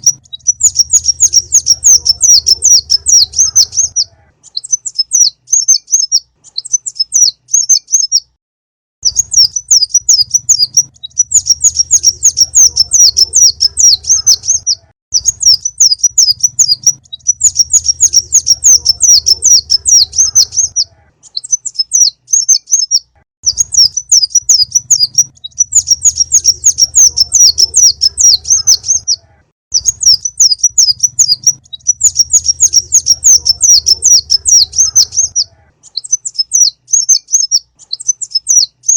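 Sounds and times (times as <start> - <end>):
small bird chittering song: 0.0 - 8.4, 9.0 - 38.9.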